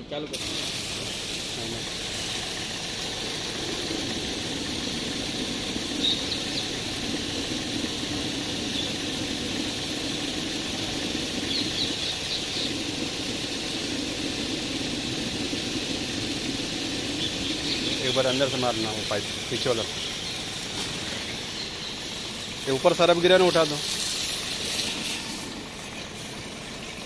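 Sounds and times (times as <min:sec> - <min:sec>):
pressure washer spraying: 0:00.3 - 0:27.0.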